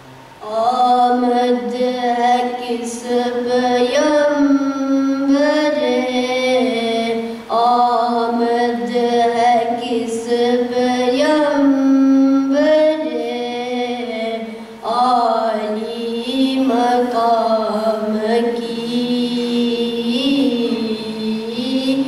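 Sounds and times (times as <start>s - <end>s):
boy singing into a microphone: 0.4s - 22.0s.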